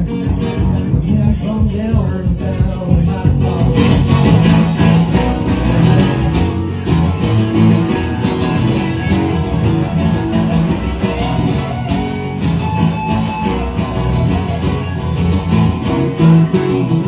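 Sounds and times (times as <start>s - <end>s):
live band with guitar: 0.0s - 17.0s.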